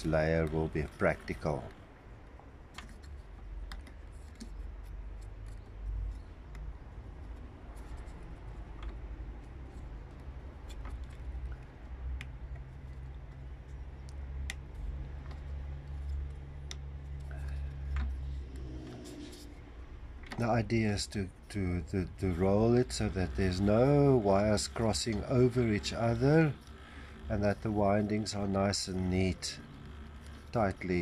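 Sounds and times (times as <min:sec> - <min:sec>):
steady low hum: 0:00.0 - 0:31.0
fingers handling fine wire: 0:02.6 - 0:19.6, 0:20.2 - 0:31.0.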